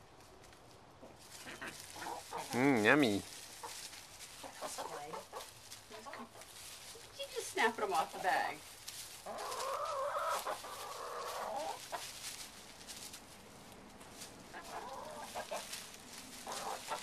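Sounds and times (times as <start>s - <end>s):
hens clucking: 1.0s - 17.0s.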